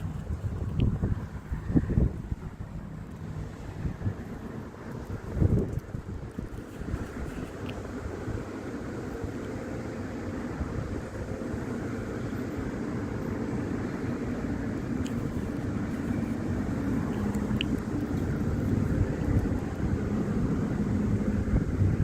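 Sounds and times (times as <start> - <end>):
low motor rumble with hum: 0.0 - 22.0.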